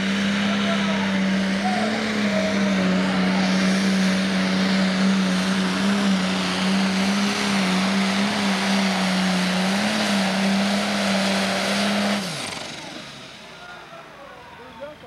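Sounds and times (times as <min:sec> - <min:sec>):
diesel tractor engine droning: 0:00.0 - 0:15.0.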